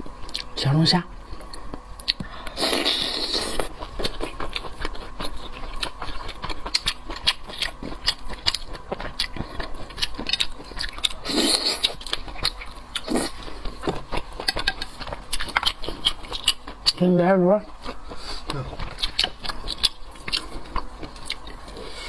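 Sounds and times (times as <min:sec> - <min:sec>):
chewing: 0:00.2 - 0:00.6, 0:01.2 - 0:22.0.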